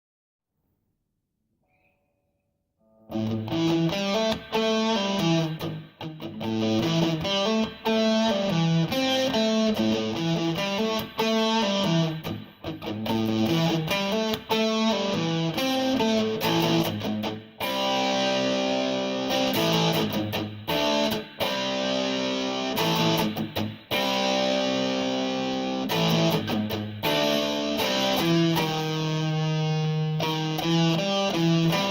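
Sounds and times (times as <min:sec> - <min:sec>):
overdriven electric guitar riff: 0:03.0 - 0:31.9.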